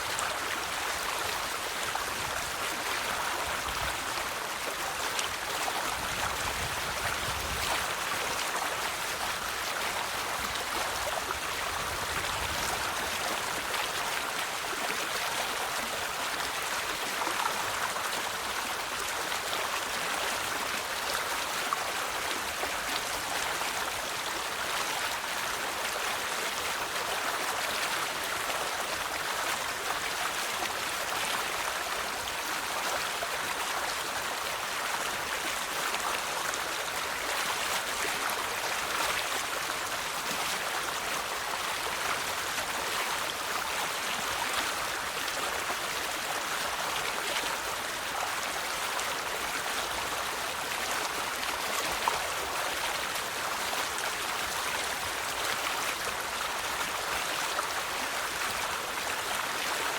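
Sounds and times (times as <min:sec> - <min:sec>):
river babbling over stones: 0:00.0 - 0:59.9.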